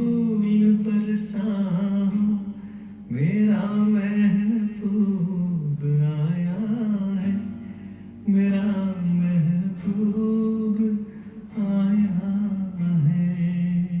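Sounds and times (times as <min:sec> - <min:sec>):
man singing slow melody: 0:00.0 - 0:14.0.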